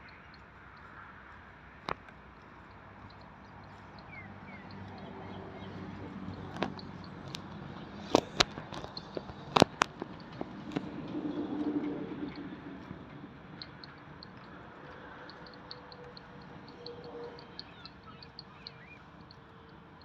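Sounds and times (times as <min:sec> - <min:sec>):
cattle moving about: 0:00.0 - 0:20.0
hooves knocking: 0:00.8 - 0:19.5.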